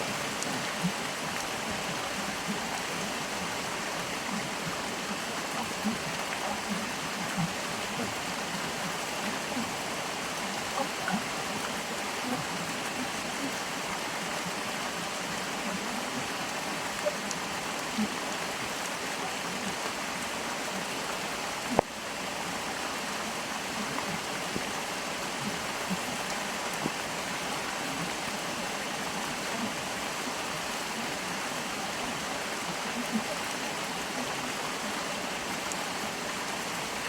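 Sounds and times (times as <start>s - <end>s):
stream water flowing: 0.0s - 37.0s.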